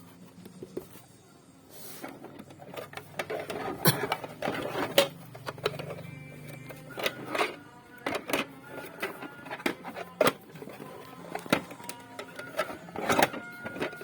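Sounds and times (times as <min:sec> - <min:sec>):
plastic boxes clicking and knocking: 0:02.3 - 0:14.0.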